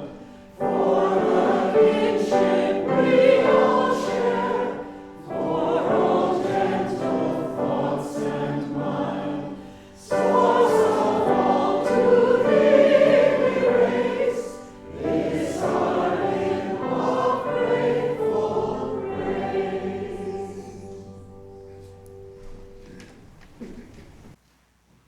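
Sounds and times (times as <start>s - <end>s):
choir singing sustained chords: 0.0s - 23.0s.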